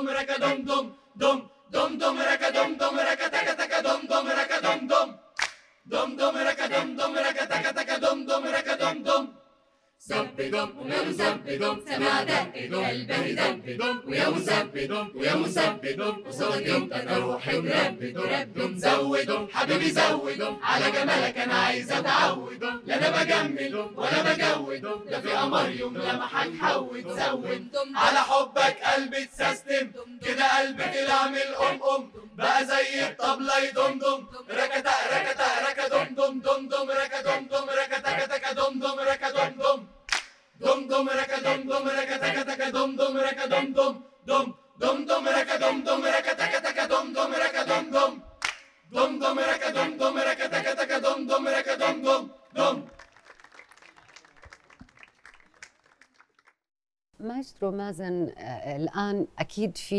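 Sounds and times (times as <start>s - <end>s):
a cappella group singing: 0.0s - 5.2s, 5.9s - 9.4s, 10.0s - 53.0s.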